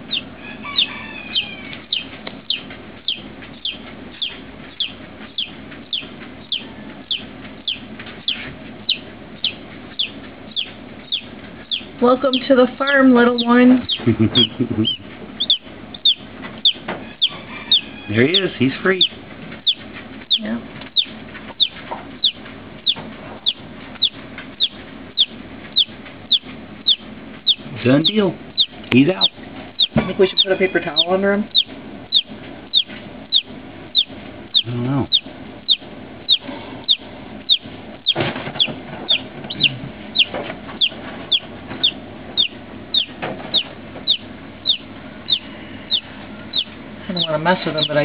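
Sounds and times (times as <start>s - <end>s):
chick peeping: 0.0s - 48.0s.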